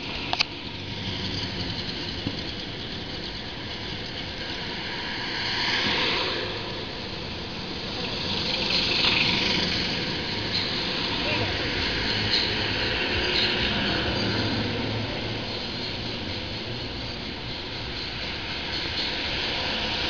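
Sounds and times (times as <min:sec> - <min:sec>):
vehicle engines and road noise: 0:00.0 - 0:20.0.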